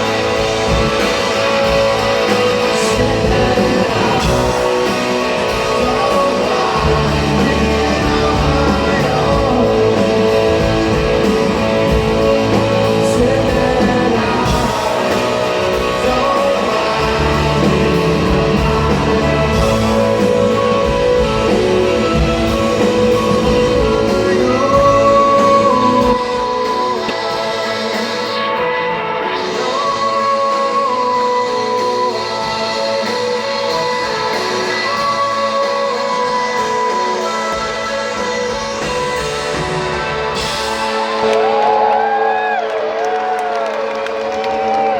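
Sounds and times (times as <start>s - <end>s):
person singing: 0.0s - 44.9s
rock guitars: 0.0s - 44.9s.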